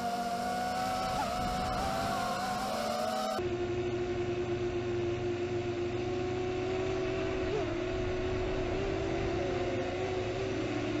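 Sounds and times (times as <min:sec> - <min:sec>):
drone motors humming: 0:00.0 - 0:11.0.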